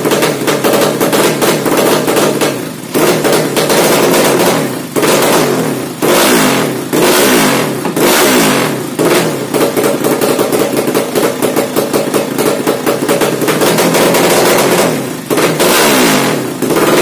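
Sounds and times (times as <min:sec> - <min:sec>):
choppy engine idle: 0:00.0 - 0:17.0
motorcycle engine revving: 0:00.0 - 0:17.0.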